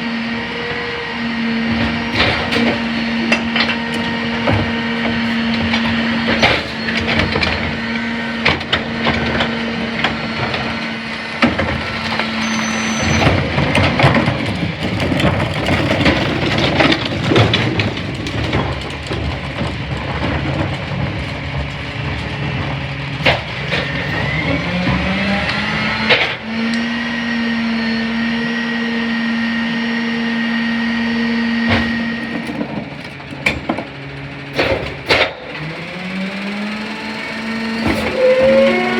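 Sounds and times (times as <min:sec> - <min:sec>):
garbage truck hydraulics whining: 0:00.0 - 0:38.9
heavy clatter and knocks: 0:01.6 - 0:26.5, 0:31.6 - 0:38.9.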